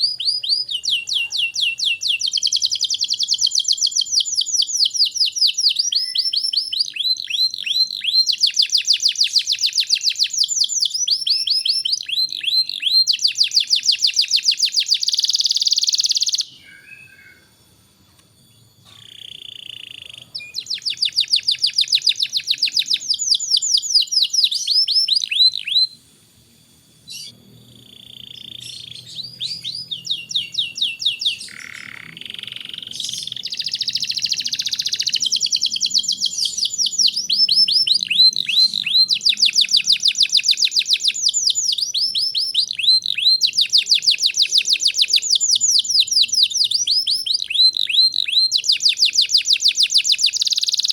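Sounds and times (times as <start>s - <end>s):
canary singing trills: 0.0s - 17.7s, 18.5s - 26.0s, 27.0s - 50.9s.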